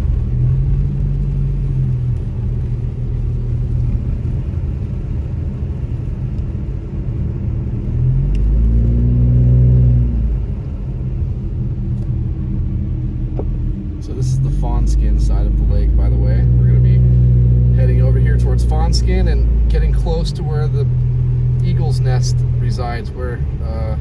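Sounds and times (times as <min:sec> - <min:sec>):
car engine drone: 0:00.0 - 0:24.0
road rumble: 0:00.0 - 0:24.0.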